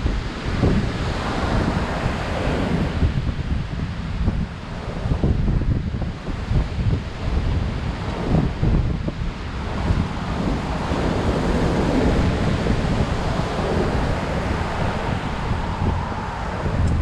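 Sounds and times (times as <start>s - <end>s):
surf breaking on a beach: 0.0s - 17.0s
wind buffeting the microphone: 0.0s - 17.0s.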